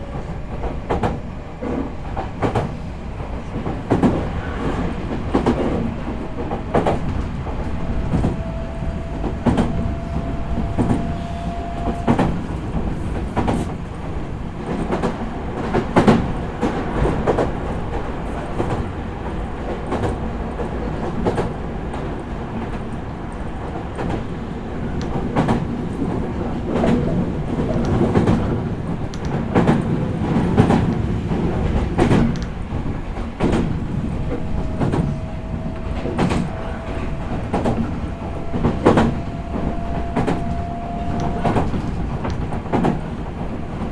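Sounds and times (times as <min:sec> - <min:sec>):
train car rumble: 0:00.0 - 0:43.9.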